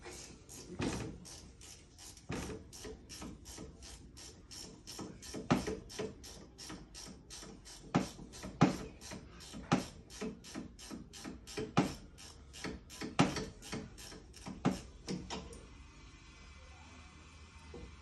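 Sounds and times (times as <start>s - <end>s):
steady mechanical clicking: 0.6s - 15.5s.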